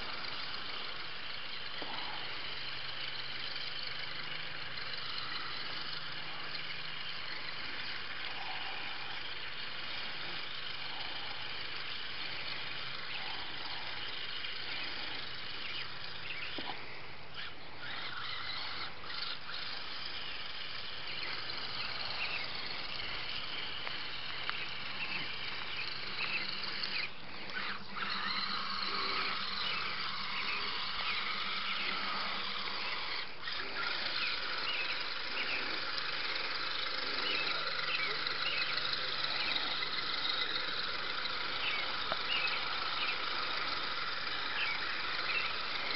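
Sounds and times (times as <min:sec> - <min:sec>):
electric motor and gears whining: 0:00.0 - 0:45.9
low buzzing tone: 0:00.0 - 0:45.9.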